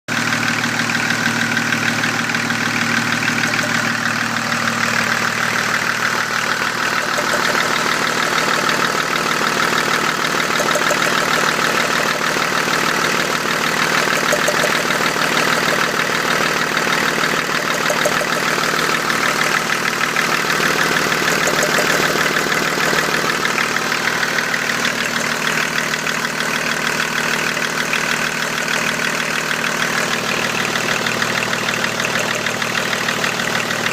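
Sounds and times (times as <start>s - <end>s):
diesel engine running: 0.1s - 33.9s
fast regular engine knock: 0.1s - 33.9s.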